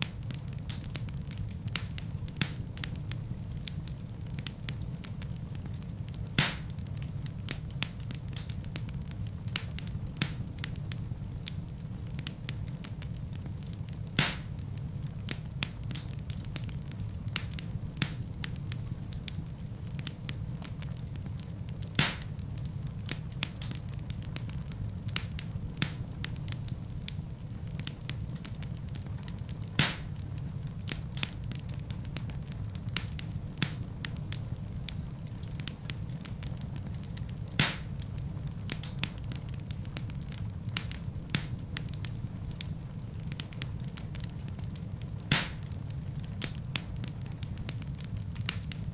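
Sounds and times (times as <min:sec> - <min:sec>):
loud fire pops: 0:00.0 - 0:48.9
wood fire crackling: 0:00.0 - 0:48.9.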